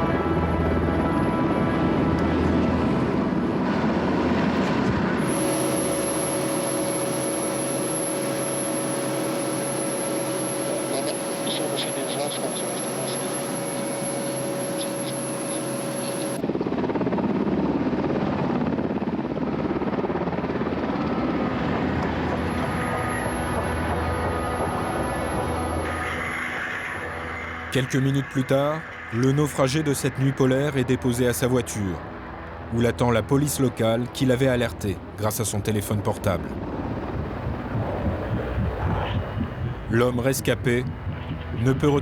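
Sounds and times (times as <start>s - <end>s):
helicopter turbines and rotor: 0.0s - 42.0s.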